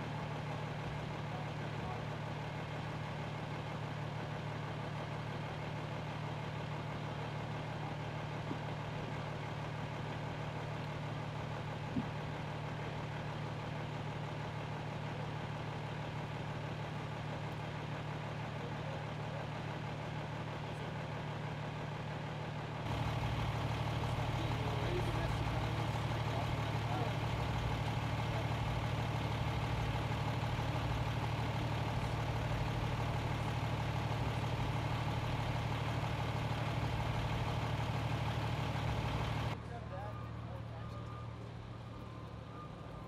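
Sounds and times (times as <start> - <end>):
fire engine idling: 0.0 - 43.0.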